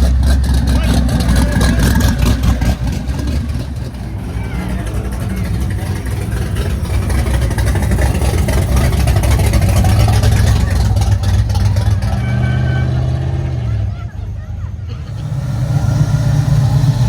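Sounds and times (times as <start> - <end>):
car engine running and revving: 0.0 - 17.0.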